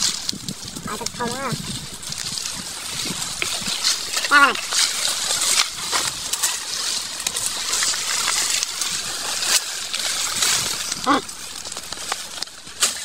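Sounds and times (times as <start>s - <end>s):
brush and twigs rustling: 0.0s - 13.0s
small crackles: 0.0s - 13.0s.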